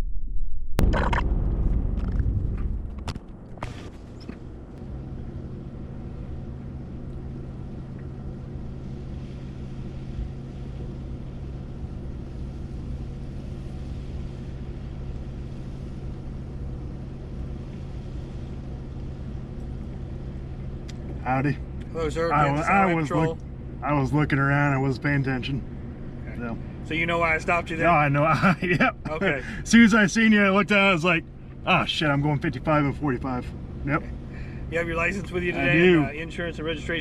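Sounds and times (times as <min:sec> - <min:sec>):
truck engine idling: 0:01.1 - 0:37.0.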